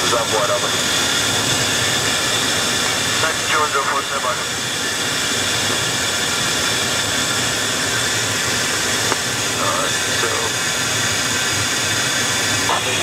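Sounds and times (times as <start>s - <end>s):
jet cockpit engine whine: 0.0s - 13.0s.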